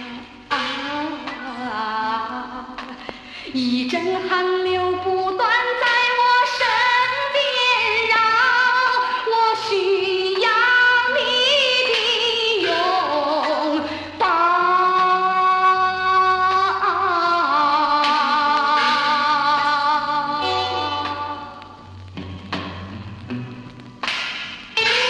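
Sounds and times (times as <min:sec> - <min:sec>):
pop music from a vinyl record: 0:00.0 - 0:25.0.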